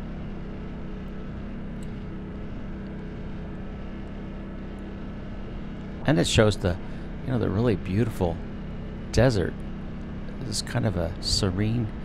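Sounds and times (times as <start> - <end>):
quad engine running steadily: 0.0 - 12.0.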